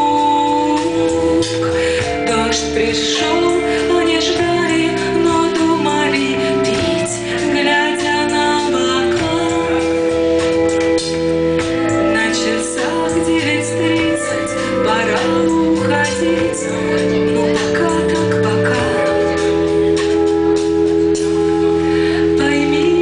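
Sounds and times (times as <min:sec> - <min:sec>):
woman singing: 0:00.0 - 0:11.0, 0:11.6 - 0:23.0
live band playing: 0:00.0 - 0:23.0
steady bass line: 0:00.0 - 0:23.0.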